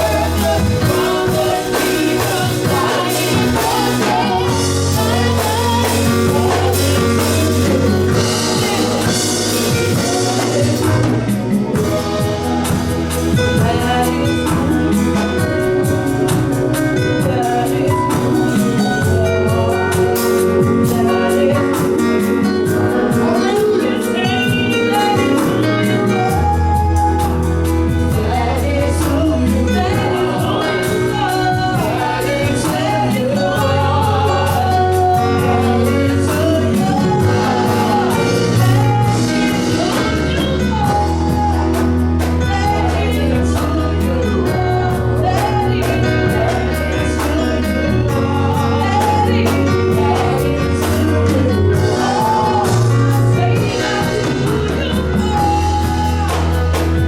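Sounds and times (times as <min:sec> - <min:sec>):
band with bass line: 0:00.0 - 0:57.0
gospel singing: 0:00.0 - 0:57.0.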